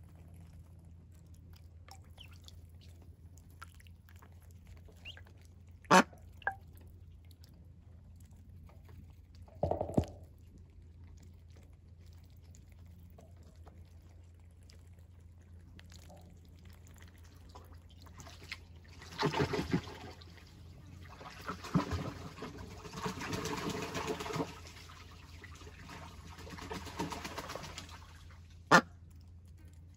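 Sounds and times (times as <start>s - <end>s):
ducklings splashing in water: 0.0s - 10.1s, 11.1s - 29.8s
faint low hum: 0.0s - 29.9s.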